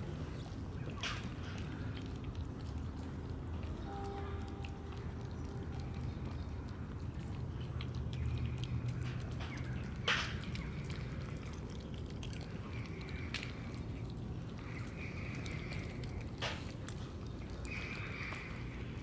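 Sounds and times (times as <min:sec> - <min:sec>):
cats eating wet food: 0:00.0 - 0:19.0.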